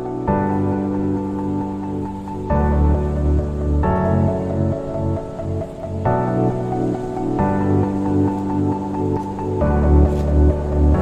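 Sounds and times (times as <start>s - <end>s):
soft new-age music: 0.0s - 11.0s.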